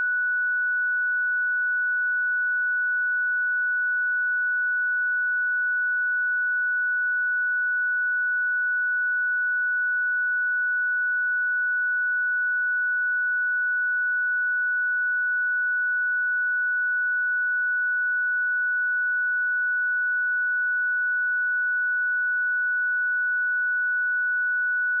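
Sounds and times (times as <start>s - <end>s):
sine wave test tone: 0.0s - 25.0s.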